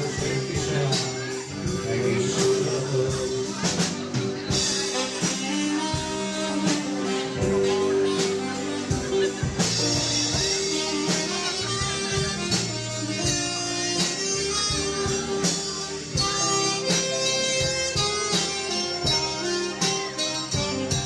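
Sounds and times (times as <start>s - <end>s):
dance band playing: 0.0s - 21.0s.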